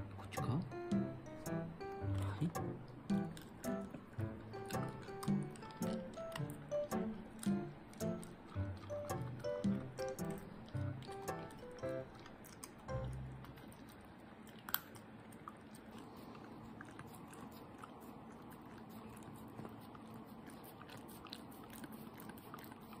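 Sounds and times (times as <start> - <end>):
puppy chewing dry kibble: 0.0 - 23.0.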